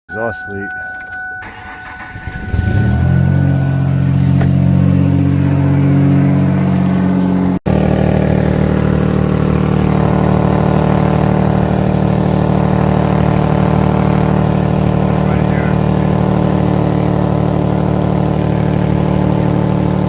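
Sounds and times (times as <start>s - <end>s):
car engine with leaking exhaust: 0.2s - 20.0s.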